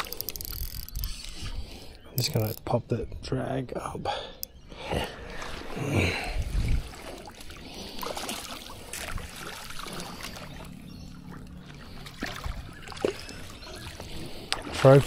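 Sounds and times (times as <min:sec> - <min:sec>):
water lapping at shoreline: 0:00.0 - 0:02.5, 0:04.7 - 0:15.0.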